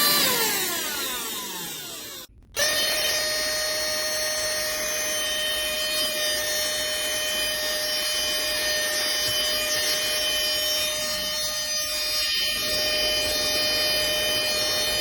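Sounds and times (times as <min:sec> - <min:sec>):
mini vacuum motor whine: 0:00.0 - 0:15.0.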